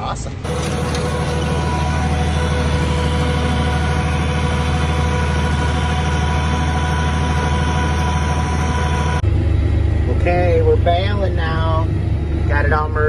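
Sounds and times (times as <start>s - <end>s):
tractor engine running: 0.4s - 13.0s.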